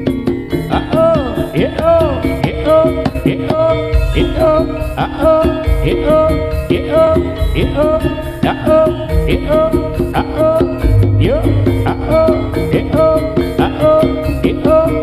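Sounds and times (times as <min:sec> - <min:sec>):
percussion ensemble playing: 0:00.0 - 0:15.0.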